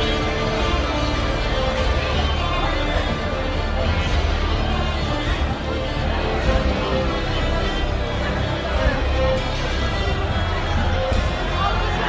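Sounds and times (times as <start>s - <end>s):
music with heavy bass: 0.0s - 12.0s.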